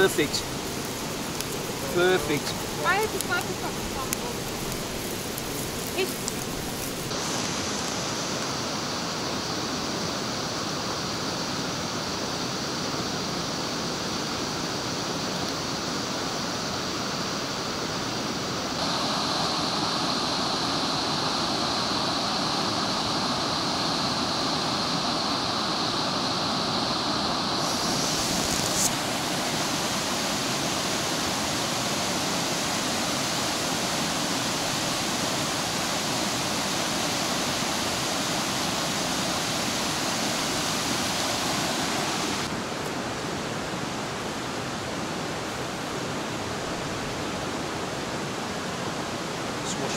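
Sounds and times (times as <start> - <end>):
river rushing over rocks: 0.0 - 49.9.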